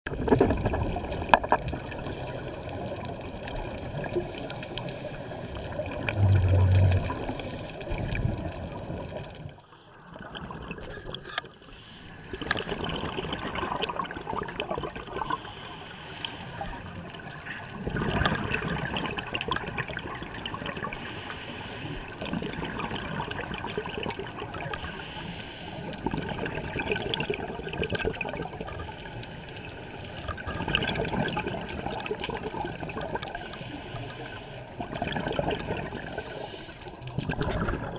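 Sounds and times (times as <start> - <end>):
underwater regulator bubbles gurgling: 0.1 - 37.9.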